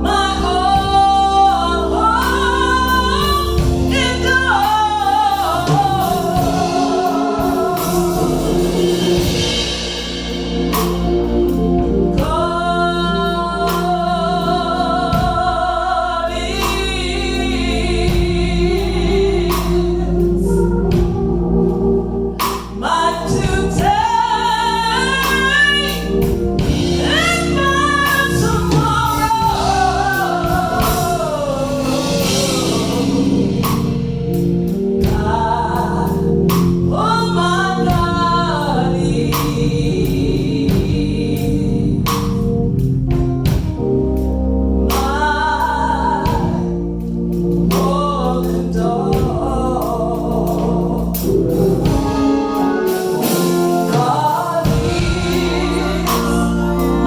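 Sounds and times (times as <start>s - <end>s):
instrumental accompaniment: 0.0s - 57.0s
person singing gospel solo: 0.0s - 57.0s.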